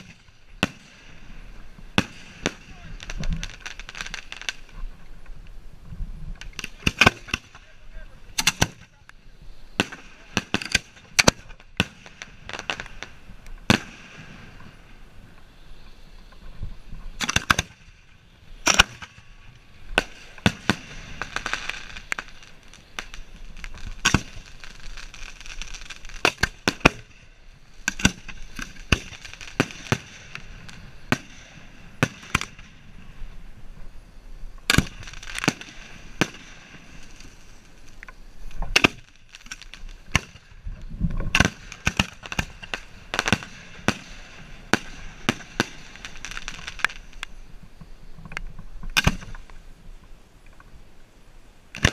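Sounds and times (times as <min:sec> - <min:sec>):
fireworks bangs: 0:00.0 - 0:05.3, 0:06.3 - 0:15.6, 0:16.4 - 0:33.8, 0:34.6 - 0:47.8.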